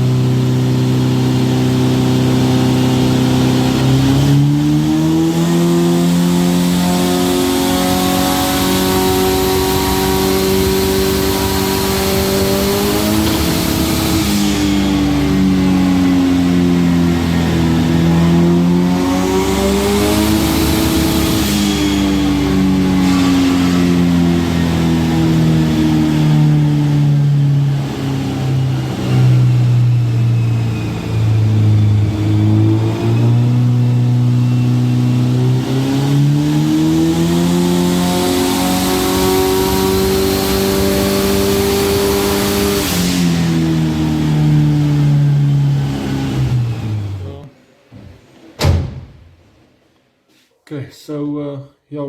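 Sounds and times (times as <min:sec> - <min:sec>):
turbocharged engine revving: 0:00.0 - 0:47.5.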